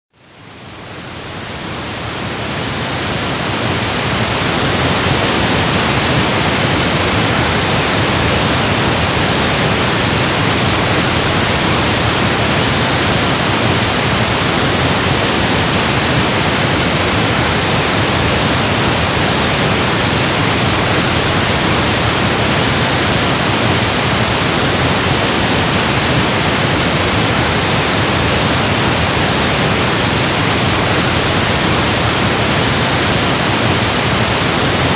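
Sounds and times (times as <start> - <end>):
pink noise hiss: 0.2 - 34.9.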